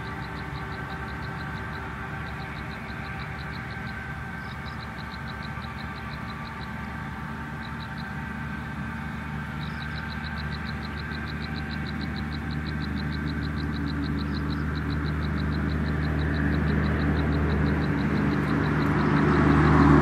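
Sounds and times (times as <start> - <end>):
low motor drone: 0.0 - 20.0.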